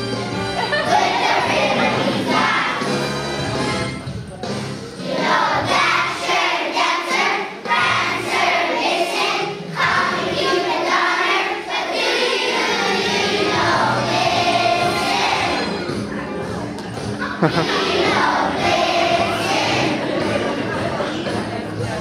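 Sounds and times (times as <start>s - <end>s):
children's choir singing: 0.6s - 3.2s, 5.0s - 16.2s, 17.2s - 22.0s.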